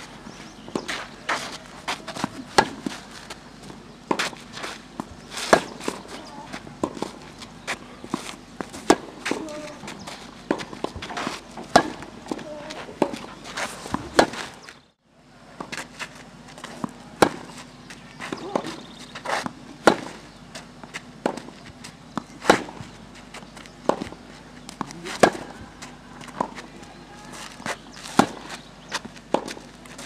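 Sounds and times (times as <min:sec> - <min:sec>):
shoes scuffing on clay: 0:00.0 - 0:14.9, 0:15.6 - 0:30.0
tennis ball struck by racquets: 0:00.6 - 0:14.6, 0:16.8 - 0:17.6, 0:18.2 - 0:20.3, 0:20.9 - 0:23.0, 0:23.8 - 0:26.7, 0:27.3 - 0:29.7.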